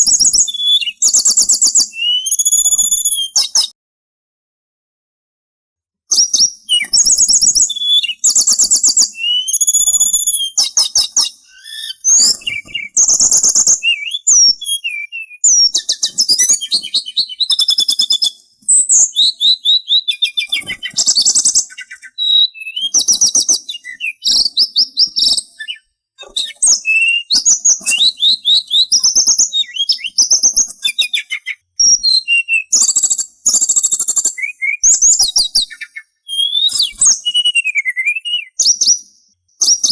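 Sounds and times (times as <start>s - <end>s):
bird singing whistled trills: 0.0s - 3.8s, 6.1s - 39.9s.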